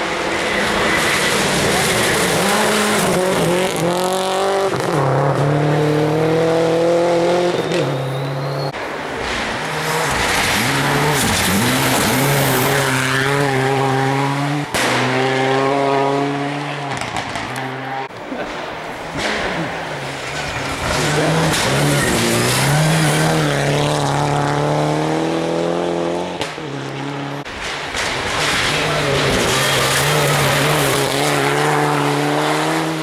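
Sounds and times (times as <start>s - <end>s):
rally car engine revving: 0.0s - 33.0s.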